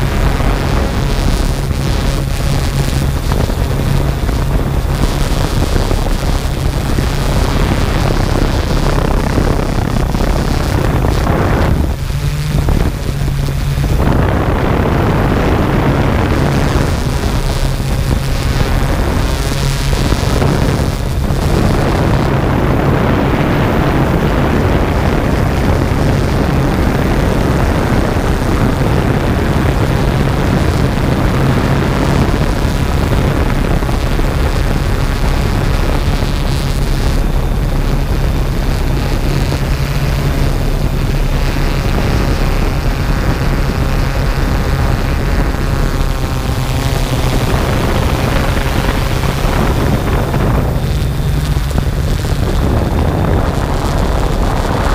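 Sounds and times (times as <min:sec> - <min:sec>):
drone propellers whirring: 0:00.0 - 0:54.9.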